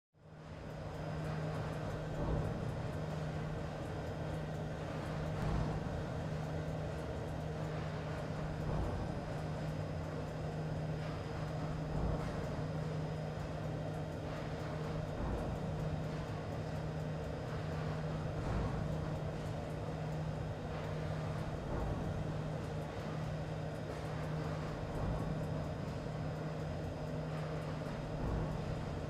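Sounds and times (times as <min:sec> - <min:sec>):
industrial machinery drone: 0:00.2 - 0:29.0.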